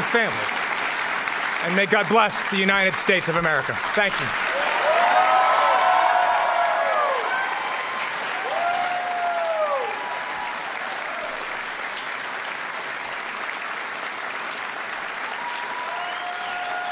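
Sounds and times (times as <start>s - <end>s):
audience clapping: 0.0s - 16.9s.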